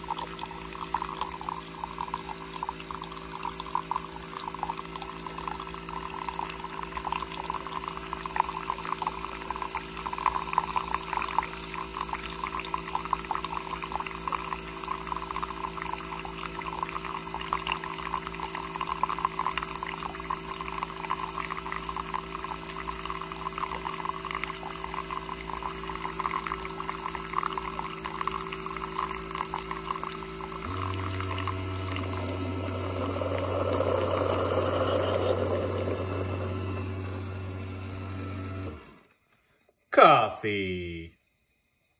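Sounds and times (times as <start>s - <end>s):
coffee trickling into mug: 0.0s - 38.3s
coffee machine humming: 0.0s - 39.1s.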